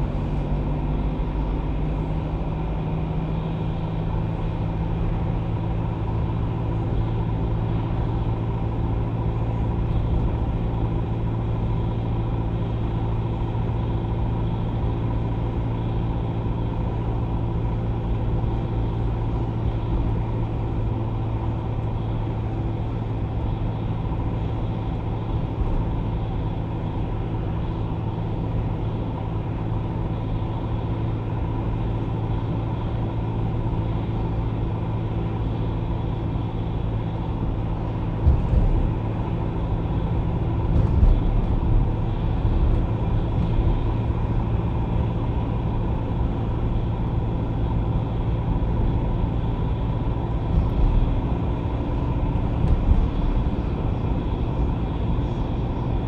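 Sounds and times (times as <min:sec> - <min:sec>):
car engine hum: 0:00.0 - 0:56.0
tyre noise on road: 0:00.0 - 0:56.0.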